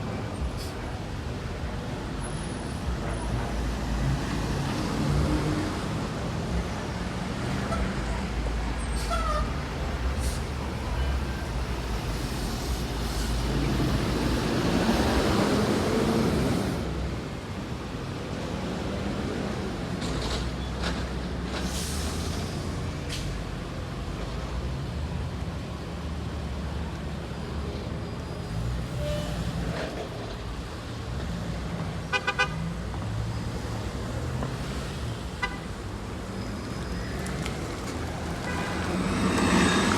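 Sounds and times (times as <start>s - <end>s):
bus engine rumbling: 0.0s - 39.9s
road traffic: 0.0s - 39.9s.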